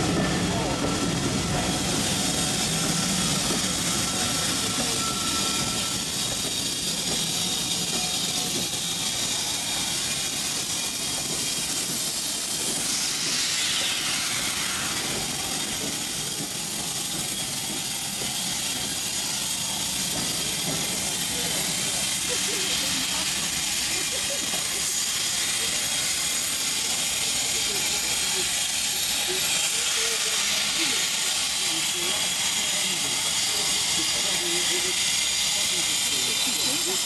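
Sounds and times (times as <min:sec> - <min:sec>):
steam locomotive hissing: 0:00.0 - 0:37.0.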